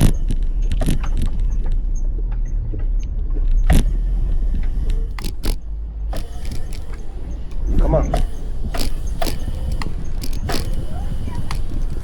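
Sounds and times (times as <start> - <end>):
sharp rattling clacks: 0.0 - 12.0
wind rumbling on microphone: 0.0 - 12.0.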